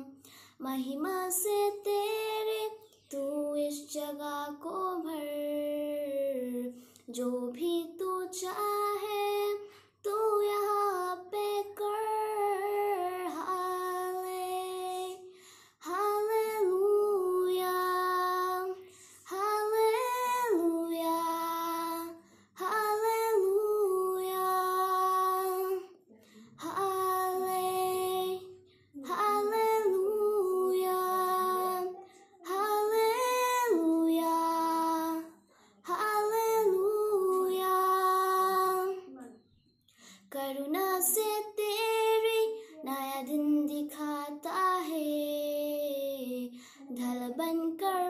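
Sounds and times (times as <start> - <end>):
girl singing unaccompanied: 0.0 - 39.4, 40.2 - 48.0.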